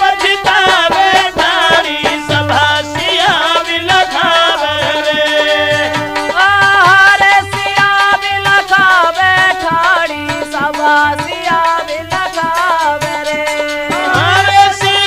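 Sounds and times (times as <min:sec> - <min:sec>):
hand drum playing: 0:00.0 - 0:15.0.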